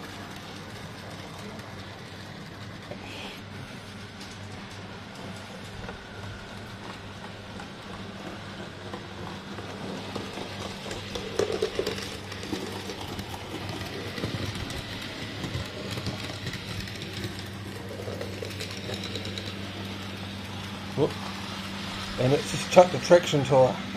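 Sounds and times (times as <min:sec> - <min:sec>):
model train motor hum: 0:00.0 - 0:23.9
wheels rattling over rails: 0:00.0 - 0:23.9.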